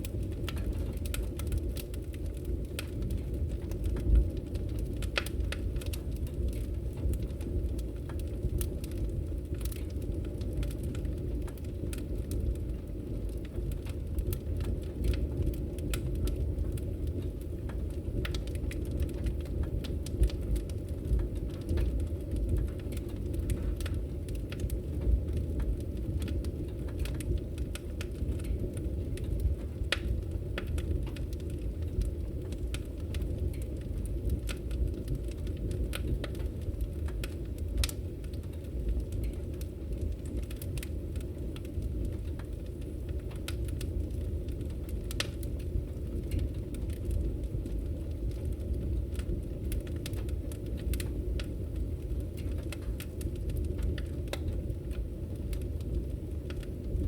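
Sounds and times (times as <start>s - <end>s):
crackles and pops of burning logs: 0.0s - 57.0s
low rumble of flames: 0.0s - 57.0s.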